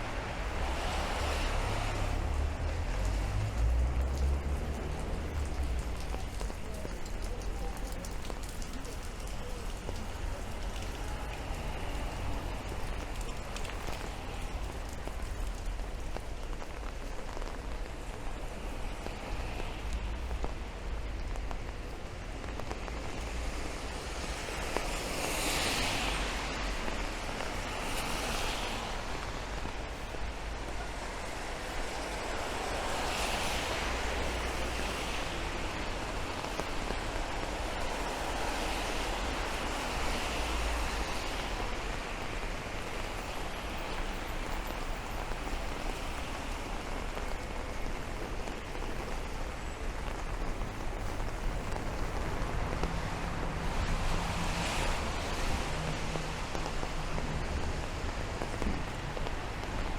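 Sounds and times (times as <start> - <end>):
rain falling on street: 0.0 - 59.9.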